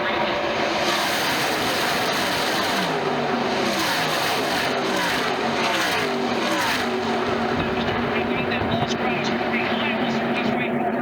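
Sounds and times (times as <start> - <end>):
race trucks passing at speed: 0.0 - 10.4.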